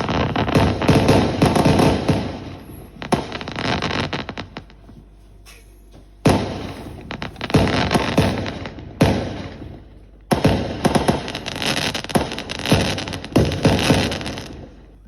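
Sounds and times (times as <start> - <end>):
fireworks bangs: 0.0 - 5.2, 6.1 - 15.0
fireworks crackling: 0.0 - 5.4, 6.2 - 15.0.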